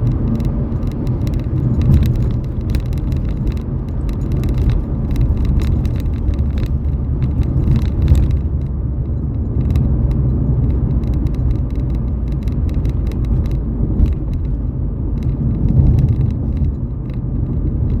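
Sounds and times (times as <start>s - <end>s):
car engine and road rumble: 0.0s - 18.0s
short clicks and rattles: 0.0s - 18.0s.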